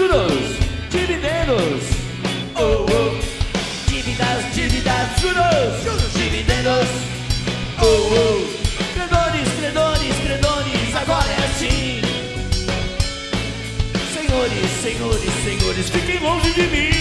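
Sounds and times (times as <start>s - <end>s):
man singing: 0.0s - 7.2s, 7.8s - 12.3s, 14.0s - 17.0s
bass guitar: 0.0s - 17.0s
distorted electric guitars: 0.0s - 17.0s
drum kit: 0.0s - 17.0s.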